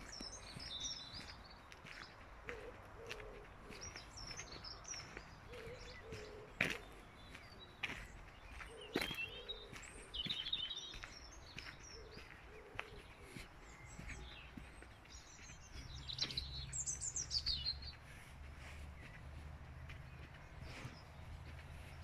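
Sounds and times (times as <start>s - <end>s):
footsteps on gravel: 0.0s - 22.0s
songbirds singing: 0.0s - 22.0s.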